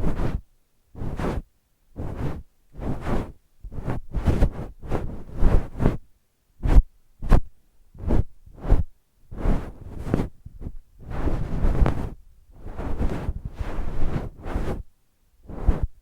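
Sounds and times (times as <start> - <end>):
brushing strokes on microphone: 0.0 - 0.4, 1.0 - 6.0, 6.6 - 16.0.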